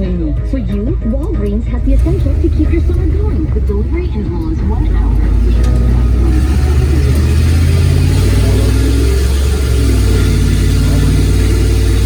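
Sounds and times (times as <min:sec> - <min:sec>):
engine deep low rumble: 0:00.0 - 0:12.0.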